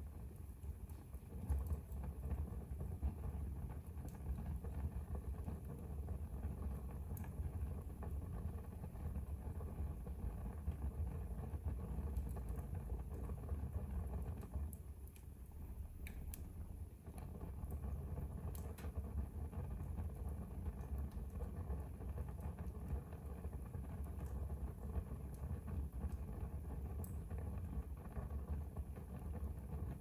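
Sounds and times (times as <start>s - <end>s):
fire crackling and popping: 0.0s - 30.0s
low rumble of fire flames: 0.0s - 30.0s.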